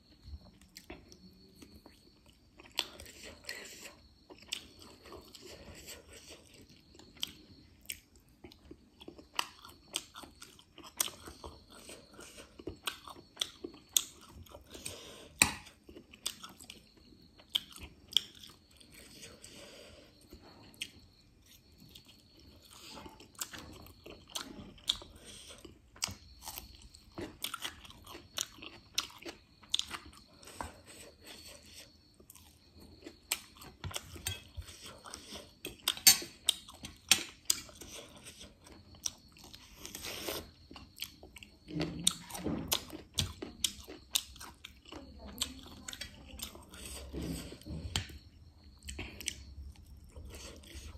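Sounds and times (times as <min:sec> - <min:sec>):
person chewing crunchy food: 0:00.1 - 0:50.9.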